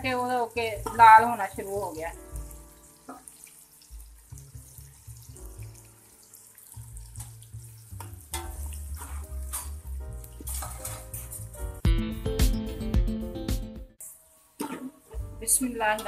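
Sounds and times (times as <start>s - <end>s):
onions sizzling in hot fat: 0.0s - 11.8s, 14.0s - 16.0s
background music: 0.0s - 14.0s, 15.0s - 16.0s.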